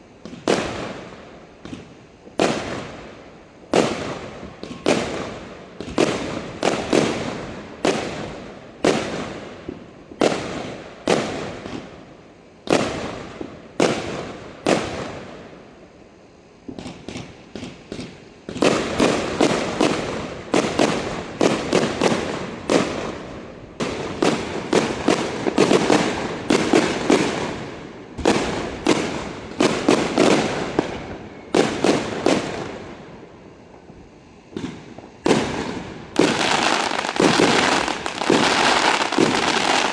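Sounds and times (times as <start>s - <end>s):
fireworks bursts: 0.0s - 15.6s, 16.6s - 39.9s.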